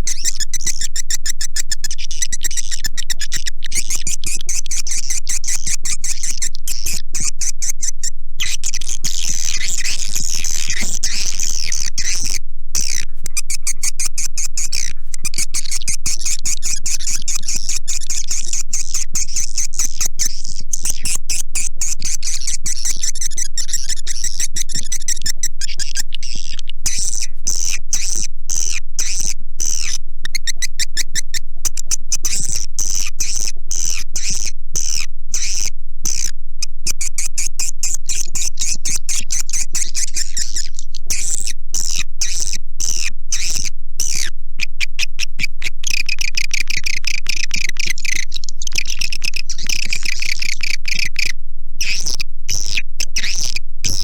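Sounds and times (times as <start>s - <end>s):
swiftlet chirps and clicks: 0.0s - 36.3s, 37.0s - 54.0s.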